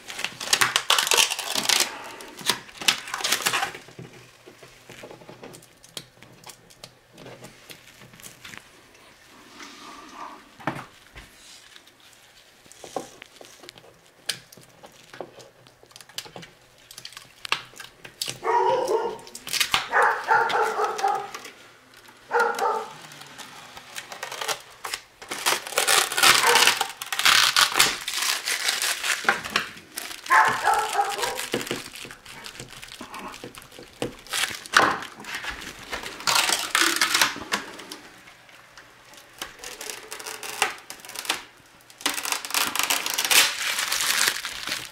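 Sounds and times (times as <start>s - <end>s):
plastic film peeling and crackling: 0.0s - 9.4s, 10.6s - 44.9s.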